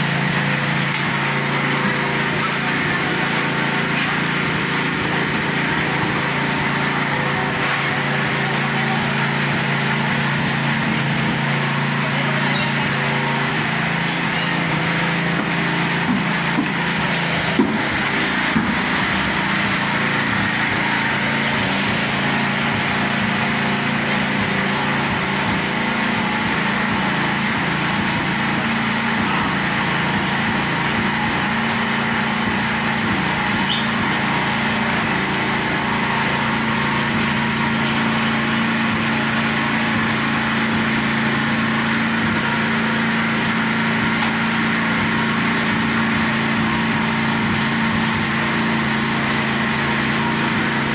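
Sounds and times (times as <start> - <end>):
small petrol engine running: 0.0 - 50.9.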